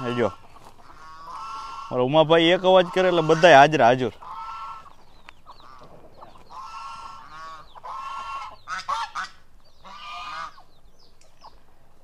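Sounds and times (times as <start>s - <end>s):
geese honking: 0.0s - 10.8s.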